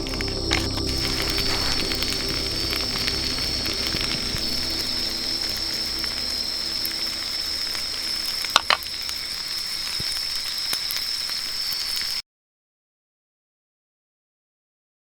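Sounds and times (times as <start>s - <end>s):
night insects chirping: 0.0s - 12.2s.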